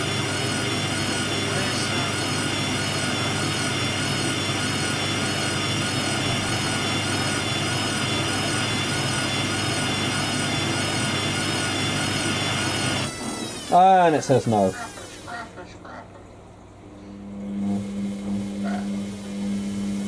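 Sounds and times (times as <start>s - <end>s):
washer dryer spinning: 0.0s - 20.0s.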